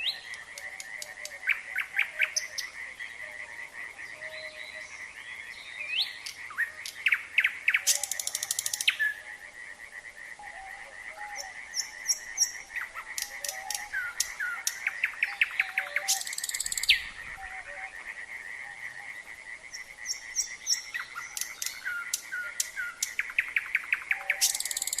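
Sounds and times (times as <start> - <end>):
nightingale singing: 0.0 - 3.4, 4.0 - 9.3, 10.4 - 25.0
frog chorus trilling: 0.0 - 25.0.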